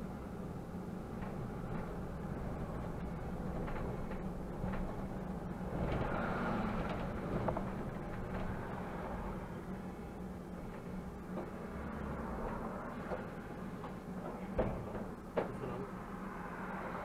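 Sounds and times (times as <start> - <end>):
bus engine hum: 0.0 - 17.0
road and cabin noise: 0.0 - 17.0.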